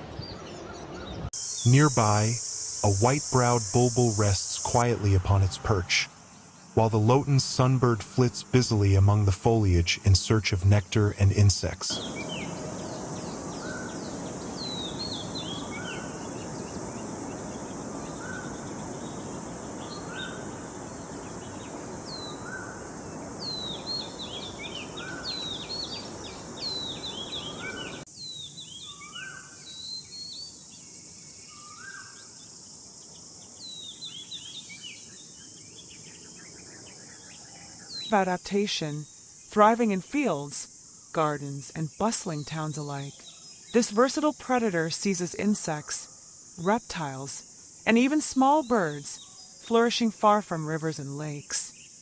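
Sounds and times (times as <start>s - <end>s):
songbirds calling: 0.0s - 52.0s
steady high hiss: 1.3s - 52.0s.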